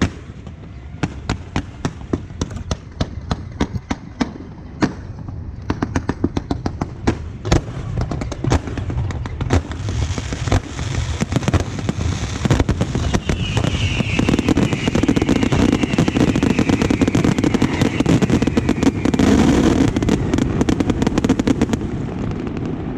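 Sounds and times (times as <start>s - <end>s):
fireworks bursting and crackling: 0.0s - 22.9s.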